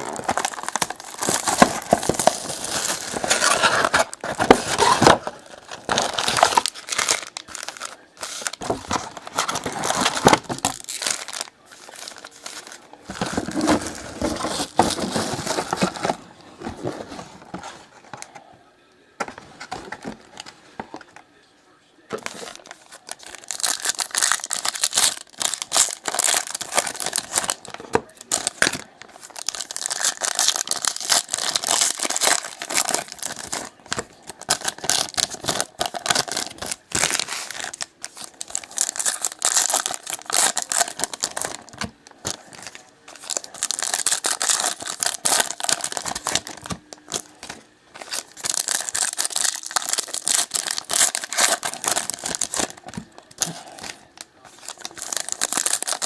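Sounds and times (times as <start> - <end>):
wrappers tearing and crinkling: 0.0 - 16.2, 22.1 - 56.0.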